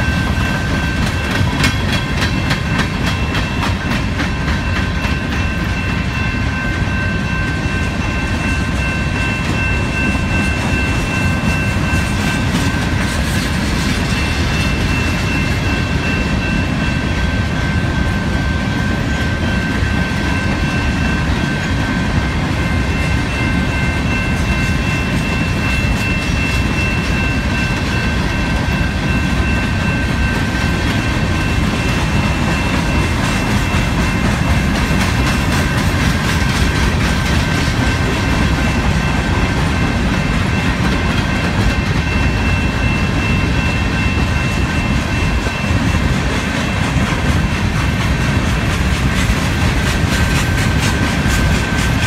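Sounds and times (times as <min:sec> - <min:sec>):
freight train wheels clattering: 0:00.0 - 0:52.0.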